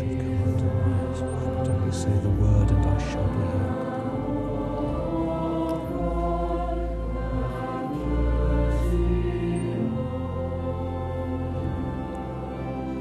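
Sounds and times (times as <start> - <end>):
choir singing sustained chords: 0.0 - 13.0.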